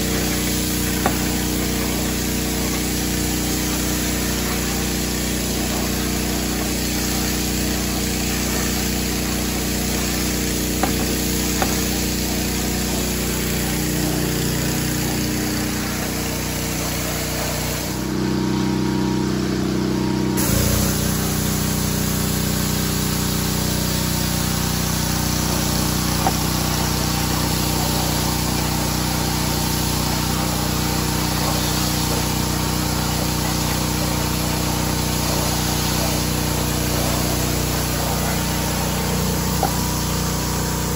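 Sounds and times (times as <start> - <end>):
water spray hissing: 0.0 - 18.2, 20.4 - 40.9
pressure washer motor humming: 0.0 - 40.9.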